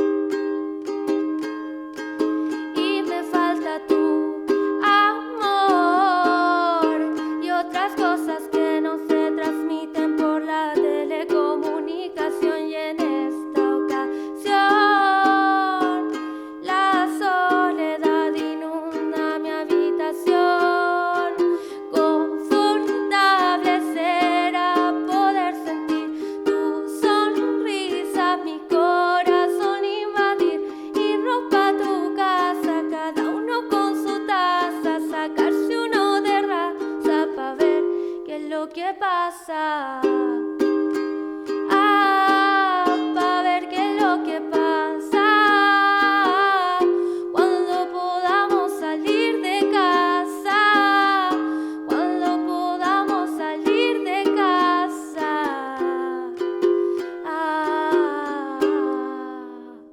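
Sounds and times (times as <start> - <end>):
person singing: 0.0 - 59.9
strummed acoustic string instrument: 0.0 - 59.9.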